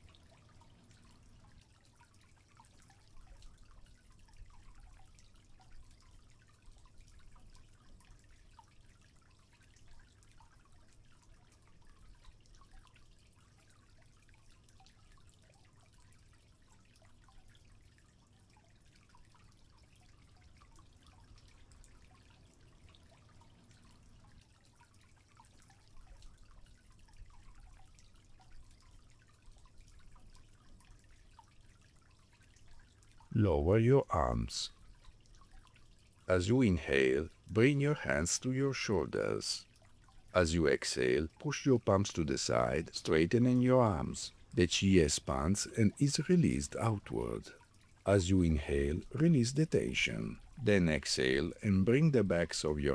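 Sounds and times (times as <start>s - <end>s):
small water drips: 0.0s - 33.4s, 34.0s - 36.3s, 37.1s - 44.6s, 46.9s - 48.1s
faint trickling water: 0.0s - 52.9s.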